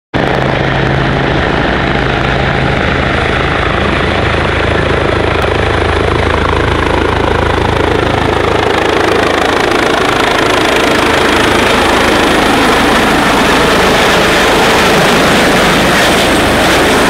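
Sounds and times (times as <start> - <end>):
helicopter engine whine: 0.2 - 17.0
helicopter rotor beating: 0.2 - 17.0.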